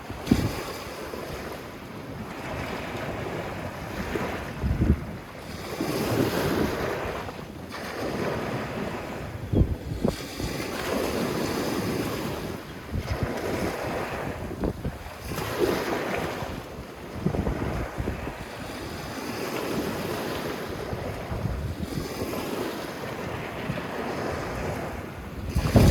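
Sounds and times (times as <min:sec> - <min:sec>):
waves washing onto sandy beach: 0:00.0 - 0:25.9
wind buffeting microphone: 0:00.0 - 0:25.9.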